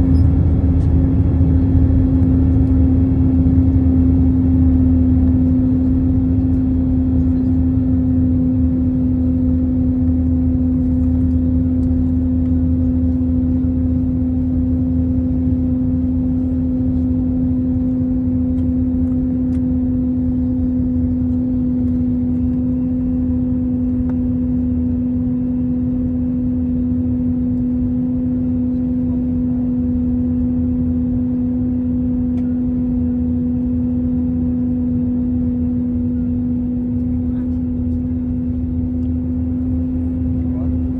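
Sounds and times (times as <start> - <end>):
jet engines droning in cabin: 0.0 - 40.9.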